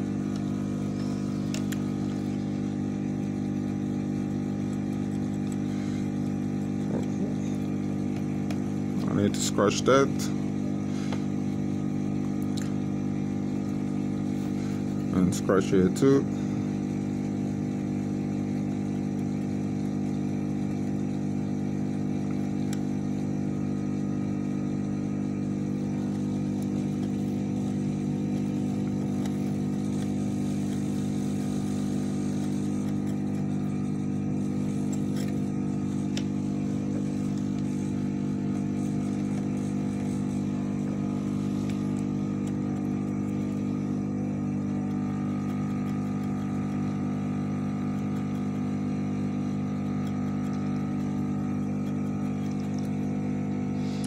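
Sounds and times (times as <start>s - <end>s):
equipment humming: 0.0s - 54.0s.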